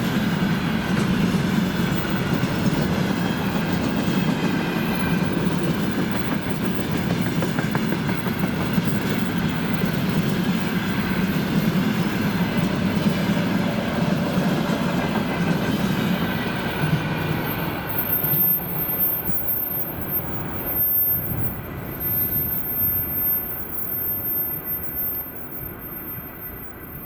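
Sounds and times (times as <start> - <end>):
train wheels rumbling and clattering: 0.0 - 27.0.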